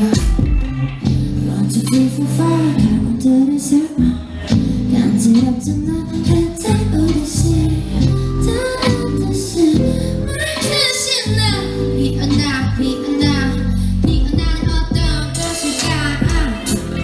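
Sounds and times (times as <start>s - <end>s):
pop song with heavy bass: 0.0s - 17.0s
woman singing: 0.0s - 17.0s.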